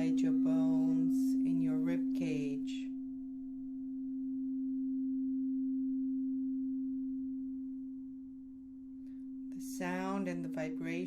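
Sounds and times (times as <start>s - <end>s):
pure ringing tone: 0.0s - 11.0s.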